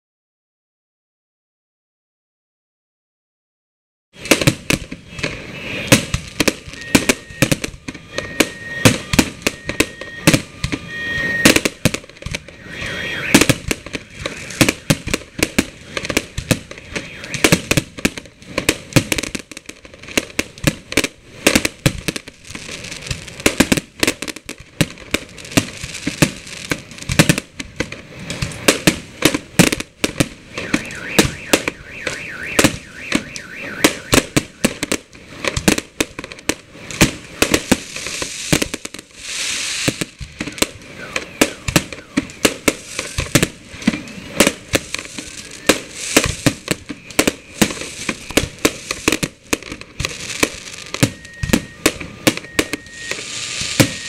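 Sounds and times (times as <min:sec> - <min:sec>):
fireworks bursting: 0:04.2 - 0:54.0.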